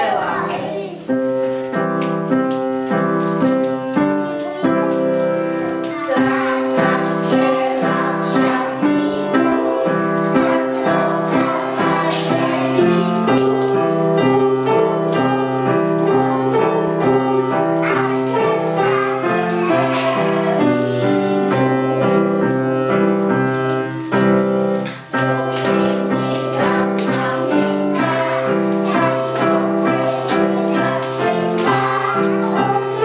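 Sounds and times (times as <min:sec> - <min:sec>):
upright piano playing: 0:00.0 - 0:33.0
young children singing: 0:00.0 - 0:33.0.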